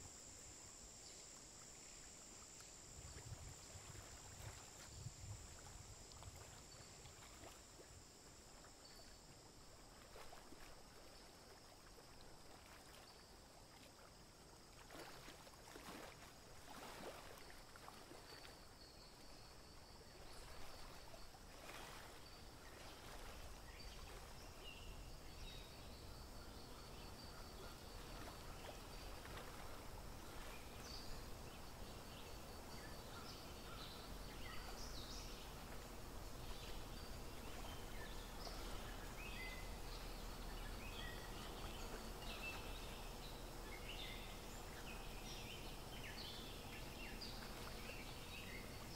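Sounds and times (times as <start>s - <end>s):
low background hiss: 0.0s - 48.9s.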